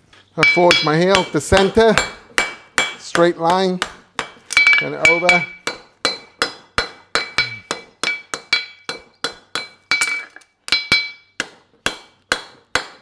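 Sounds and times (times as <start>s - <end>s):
hammer striking horseshoe on anvil: 0.4s - 13.0s.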